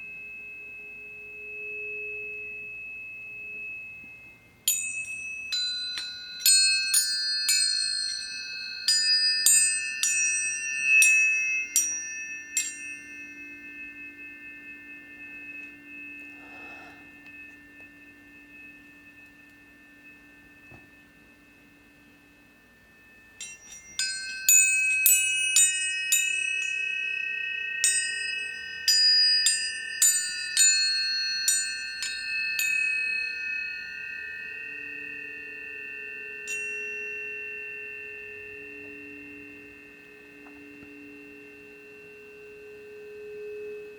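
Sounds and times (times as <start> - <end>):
tuning forks ringing: 0.0 - 43.9.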